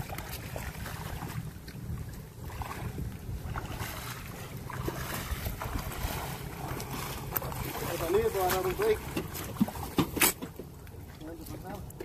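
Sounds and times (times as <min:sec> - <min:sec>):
wind rumbling on microphone: 0:00.0 - 0:10.4
water splashing around legs: 0:00.0 - 0:12.0.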